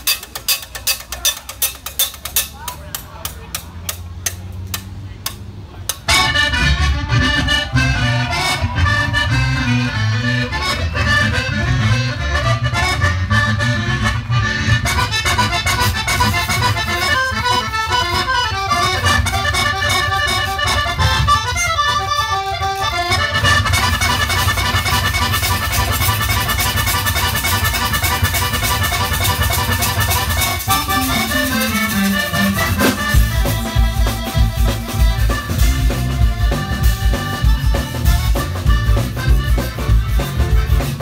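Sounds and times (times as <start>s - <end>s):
rubboard rhythmic clicks: 0.0s - 6.2s, 11.3s - 41.0s
accordion: 0.0s - 41.0s
zydeco band playing live: 0.0s - 41.0s.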